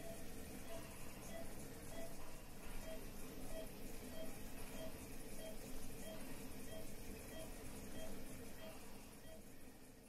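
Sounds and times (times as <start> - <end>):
respirator machine hissing: 0.0 - 10.0.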